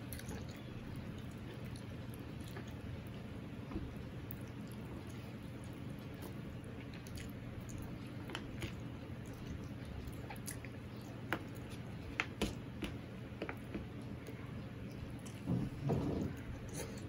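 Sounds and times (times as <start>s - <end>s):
chewing: 0.0s - 17.0s.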